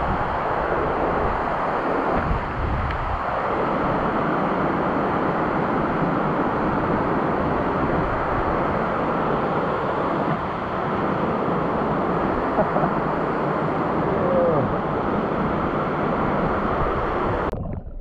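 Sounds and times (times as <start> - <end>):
waterfall roaring: 0.0 - 17.5.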